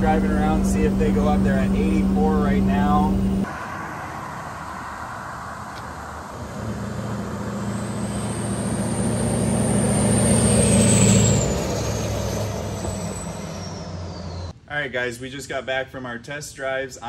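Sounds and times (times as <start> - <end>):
diesel truck driving past: 0.0 - 14.5
high whine falling in pitch: 0.0 - 14.5.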